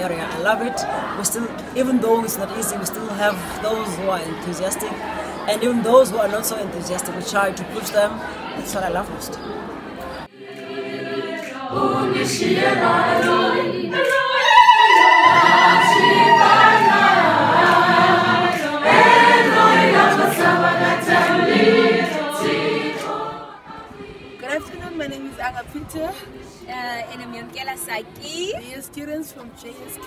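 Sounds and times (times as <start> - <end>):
choir singing: 0.0 - 28.1.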